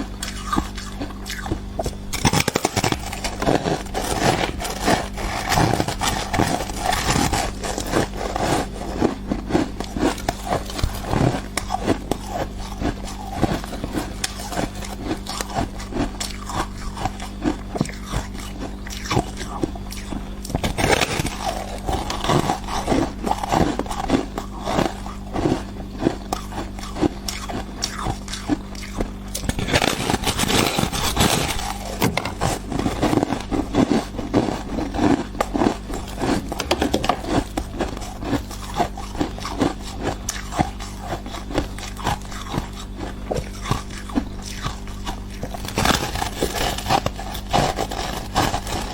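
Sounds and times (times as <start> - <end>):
ice being bitten and crunched: 0.0 - 48.9
low hum: 0.0 - 48.9.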